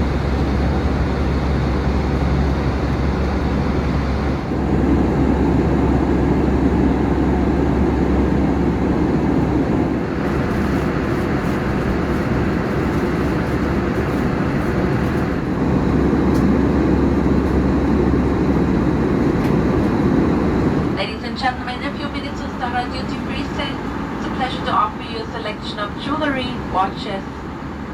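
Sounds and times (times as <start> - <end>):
airplane cabin engine roar: 0.0 - 27.9.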